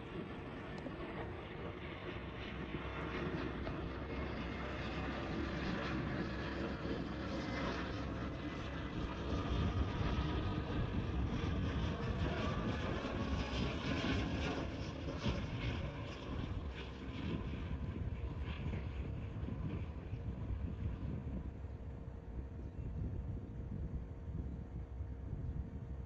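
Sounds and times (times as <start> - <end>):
jet airliner engine rush: 0.0 - 26.0.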